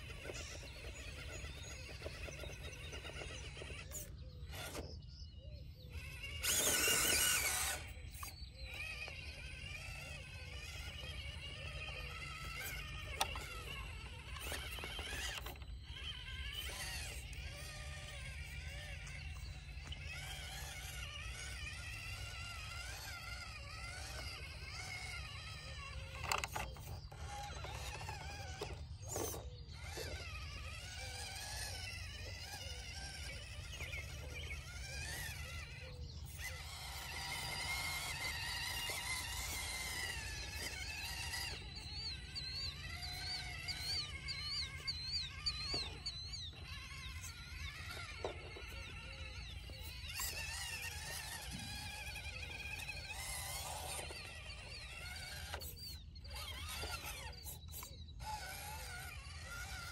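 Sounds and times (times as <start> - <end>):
birds chirping: 0.0 - 59.9
electric motor and gears whining: 0.0 - 59.9.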